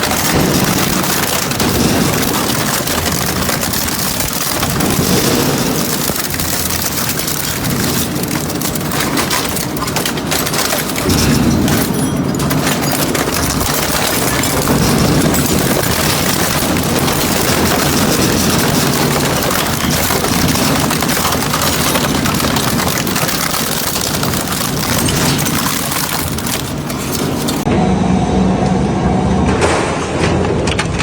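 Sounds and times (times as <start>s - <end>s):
metal shredder grinding: 0.0s - 27.7s
machine drone: 0.0s - 29.9s.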